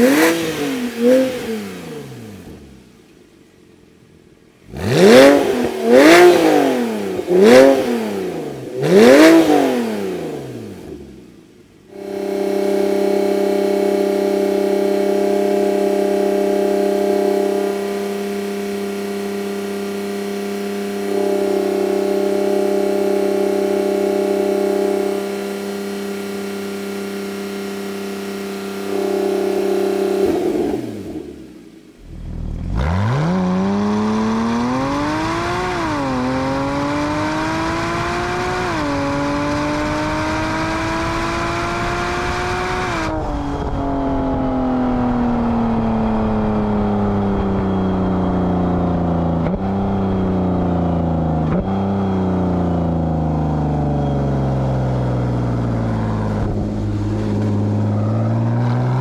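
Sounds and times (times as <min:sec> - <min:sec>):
sports car engine revving: 0:00.0 - 0:03.1, 0:04.5 - 0:59.0.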